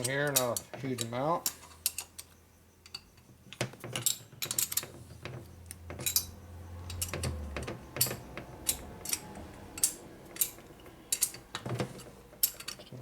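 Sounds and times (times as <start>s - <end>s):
wrench clinking on metal nuts: 0.0s - 3.3s, 3.9s - 4.9s, 5.9s - 13.0s.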